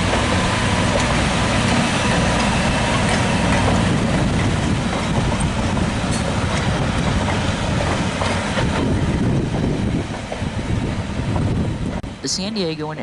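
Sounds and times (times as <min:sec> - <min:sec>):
wheels clicking over rail joints: 0:00.0 - 0:10.5
train rumbling past: 0:00.0 - 0:13.0.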